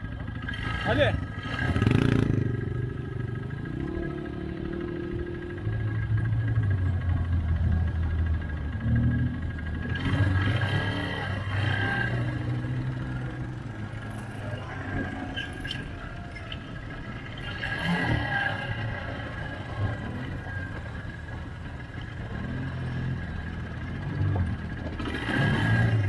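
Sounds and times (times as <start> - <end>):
quad bike engine running: 0.0 - 26.0.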